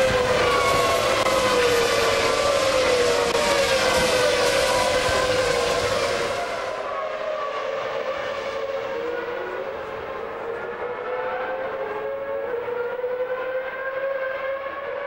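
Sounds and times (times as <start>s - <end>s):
racing car engine whine at high revs: 0.0s - 15.0s.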